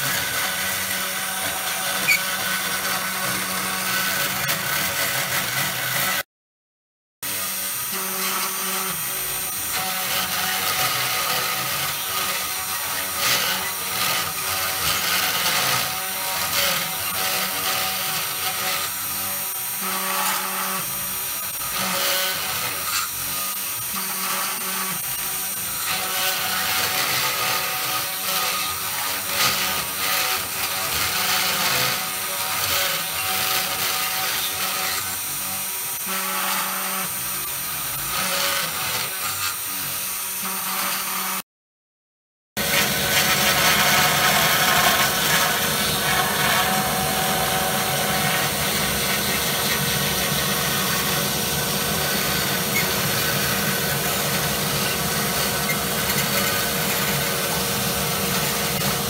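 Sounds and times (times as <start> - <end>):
router spindle high whine: 0.0 - 6.2, 7.3 - 41.4, 42.6 - 59.0
scratchy wood cutting noise: 0.0 - 6.3, 7.2 - 41.5, 42.6 - 59.0.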